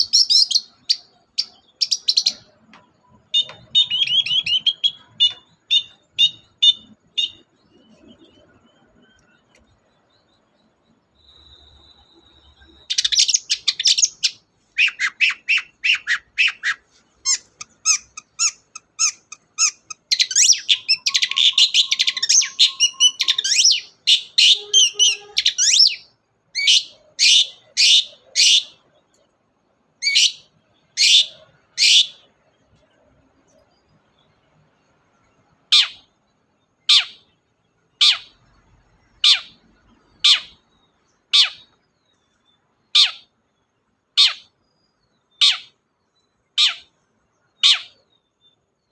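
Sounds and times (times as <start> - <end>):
bird chattering song: 0.0 - 29.3, 30.0 - 48.9
harsh downward bird calls: 0.0 - 29.3, 30.0 - 48.9.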